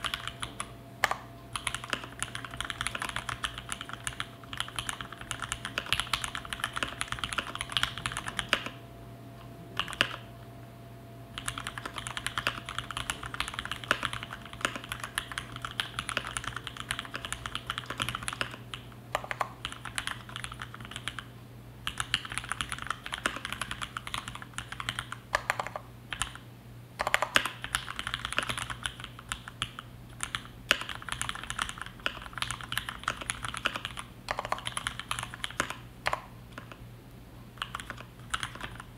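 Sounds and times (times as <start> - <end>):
typing on mechanical keyboard: 0.0 - 8.8, 9.8 - 10.3, 11.4 - 26.4, 27.0 - 36.8, 37.6 - 38.9.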